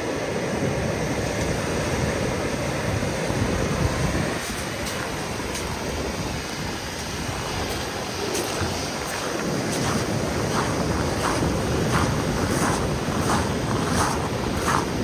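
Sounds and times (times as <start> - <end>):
surf breaking on shore: 0.0 - 15.0
wind on microphone: 0.0 - 15.0.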